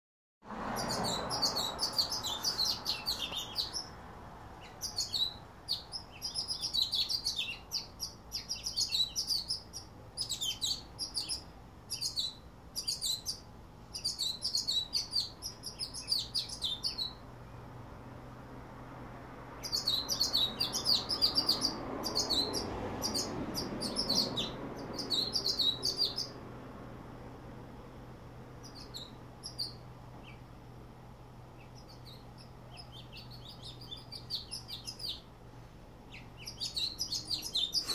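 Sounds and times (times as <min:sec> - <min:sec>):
pet birds chirping: 0:00.6 - 0:17.7, 0:19.5 - 0:26.4, 0:28.6 - 0:35.4, 0:36.0 - 0:37.9.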